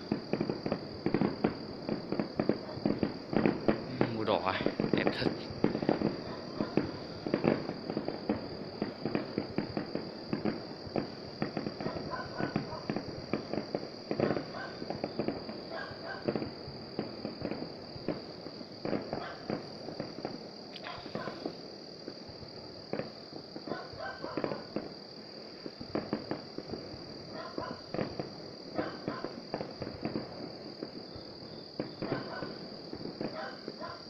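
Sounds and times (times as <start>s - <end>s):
distant fireworks popping: 0.0s - 34.0s.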